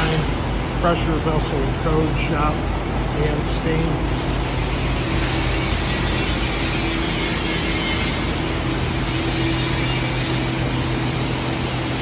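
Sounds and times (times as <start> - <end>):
low machinery hum: 0.0 - 12.0
machinery rushing noise: 0.0 - 12.0.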